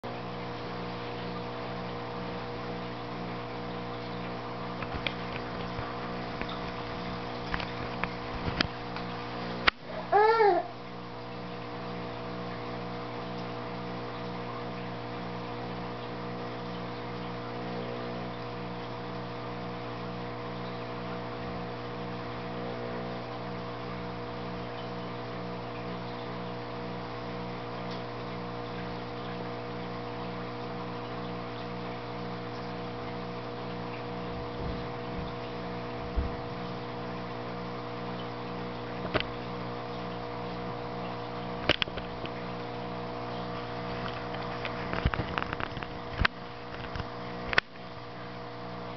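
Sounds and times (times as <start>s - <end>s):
aquarium equipment humming: 0.0s - 48.9s.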